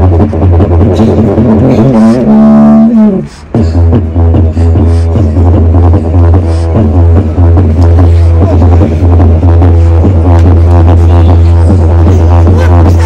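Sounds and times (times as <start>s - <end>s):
didgeridoo droning: 0.0s - 13.0s.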